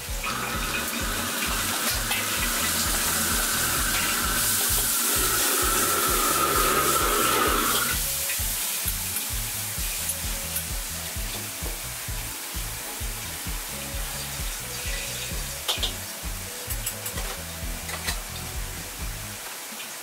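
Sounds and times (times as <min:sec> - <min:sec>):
meat and vegetables sizzling in a wok: 0:00.0 - 0:20.0.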